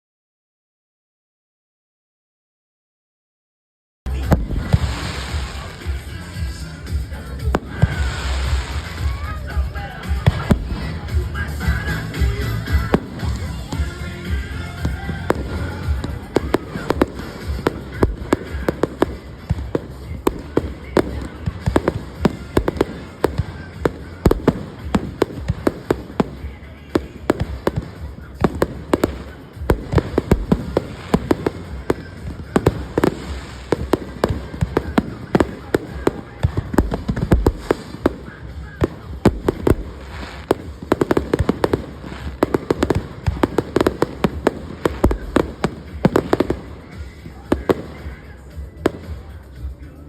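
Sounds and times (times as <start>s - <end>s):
fireworks bangs and crackles: 4.1s - 50.0s.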